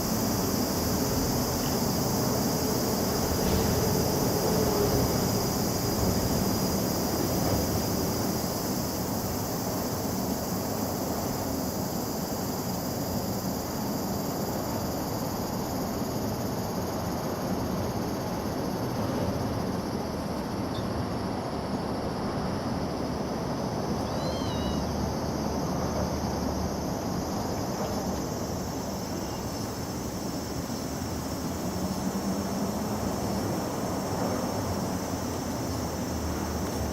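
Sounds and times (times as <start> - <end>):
cicadas buzzing: 0.0 - 36.9.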